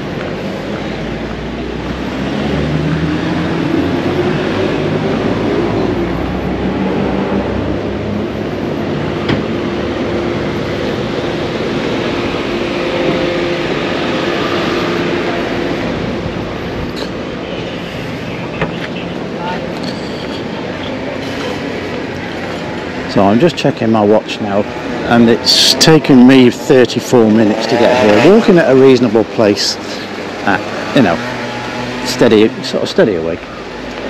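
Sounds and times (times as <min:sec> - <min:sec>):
vehicle engine: 0:00.0 - 0:34.0.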